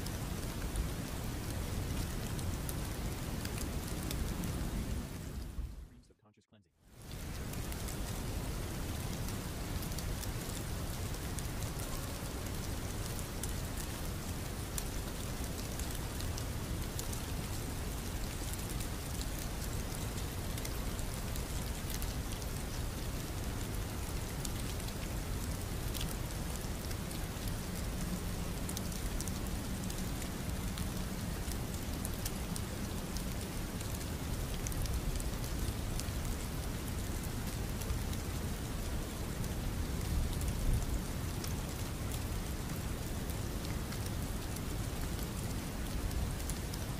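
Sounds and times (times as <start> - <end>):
raindrop ticks: 0.0 - 5.6, 7.0 - 46.9
steady rainfall: 0.0 - 6.0, 6.9 - 46.9.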